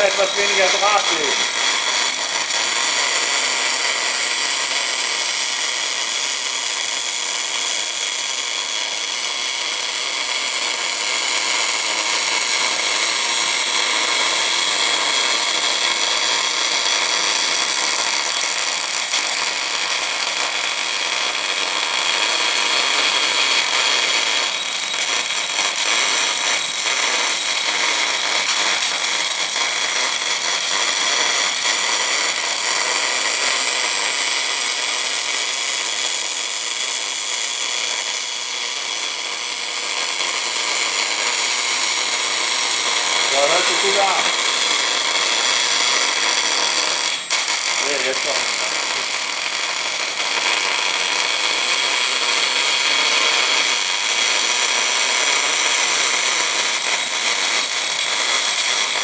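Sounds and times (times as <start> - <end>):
welding arc hissing: 0.0 - 59.0.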